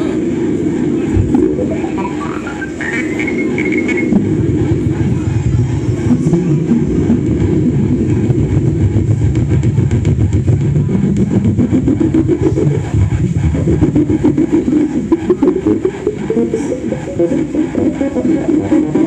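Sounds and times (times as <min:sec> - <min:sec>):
electronic noise low rumble: 0:00.0 - 0:19.0.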